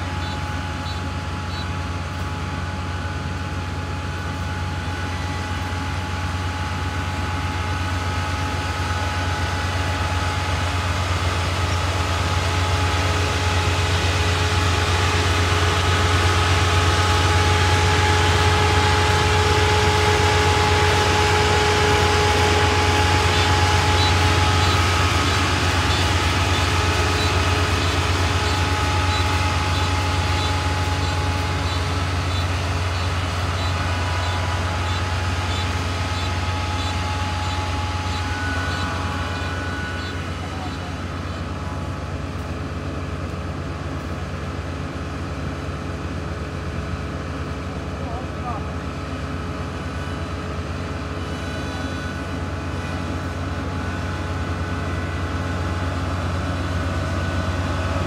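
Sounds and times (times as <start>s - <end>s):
diesel engine drone: 0.0s - 58.0s
machinery whining: 0.0s - 58.0s.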